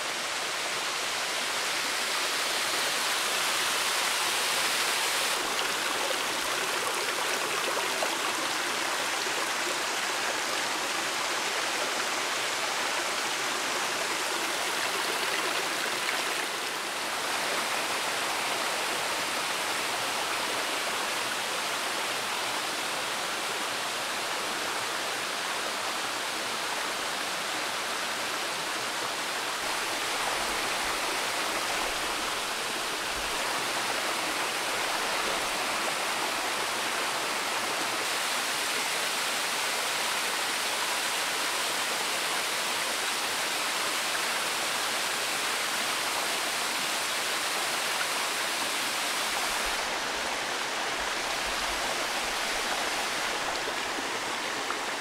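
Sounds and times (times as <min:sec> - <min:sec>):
water rushing over rocks: 0:00.1 - 0:55.0.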